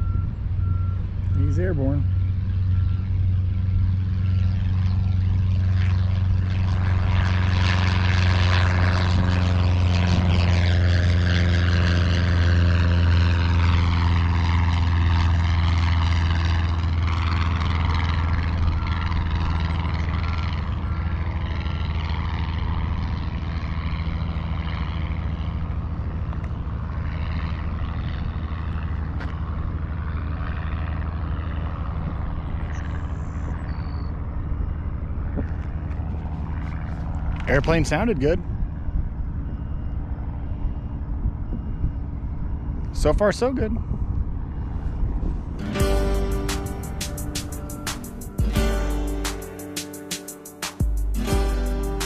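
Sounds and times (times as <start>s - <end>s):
plane engine and propeller droning: 0.0s - 52.0s.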